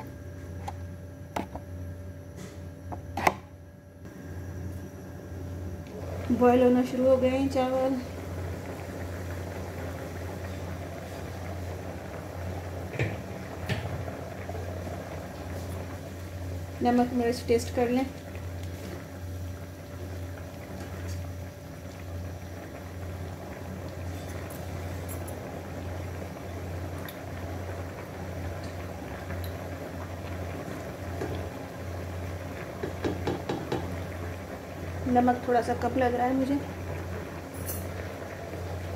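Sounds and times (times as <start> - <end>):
water boiling with bubbling hiss: 0.0 - 38.9.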